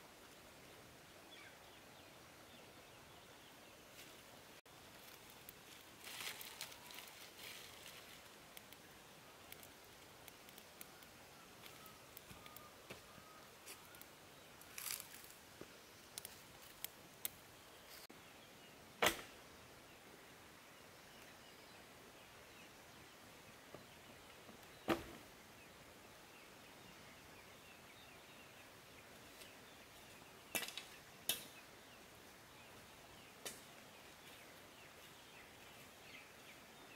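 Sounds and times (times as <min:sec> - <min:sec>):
faint background hiss: 0:00.0 - 0:36.9.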